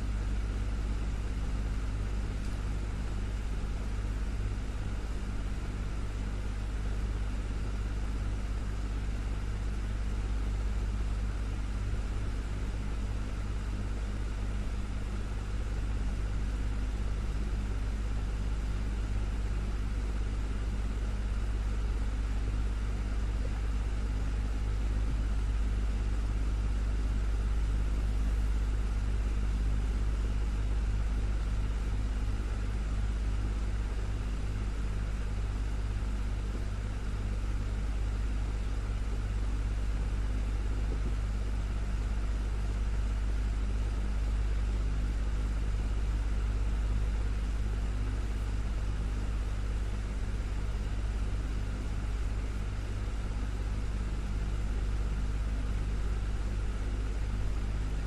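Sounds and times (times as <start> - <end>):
desktop fan running: 0.0 - 58.0.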